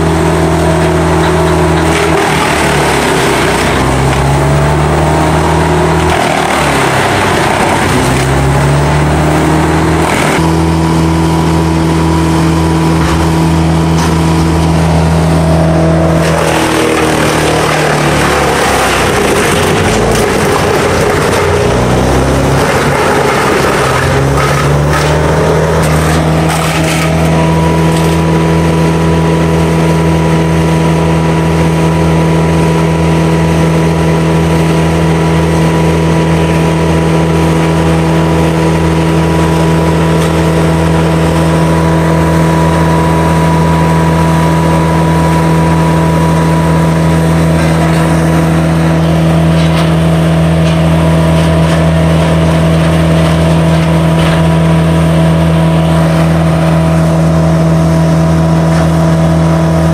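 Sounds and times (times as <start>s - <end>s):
wood chipper engine revving: 0.0s - 59.9s.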